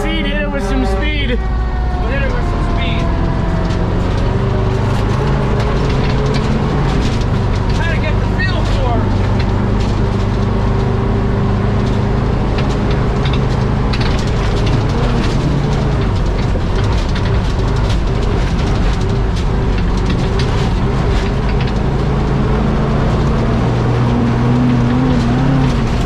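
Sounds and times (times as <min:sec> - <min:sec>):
truck engine running under load: 0:00.0 - 0:26.0
truck body rattling and knocking: 0:01.6 - 0:26.0.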